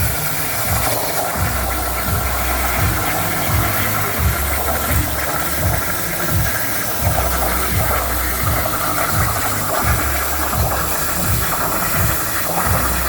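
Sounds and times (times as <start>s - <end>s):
low uneven throb: 0.0s - 13.0s
machine hiss: 0.0s - 13.0s.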